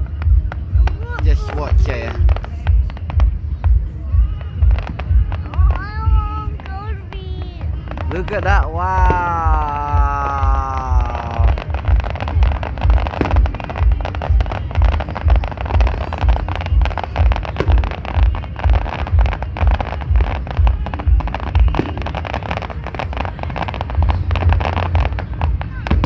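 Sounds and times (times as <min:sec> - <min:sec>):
fireworks crackling and popping: 0:00.0 - 0:26.0
music with low thudding beat: 0:00.0 - 0:26.0.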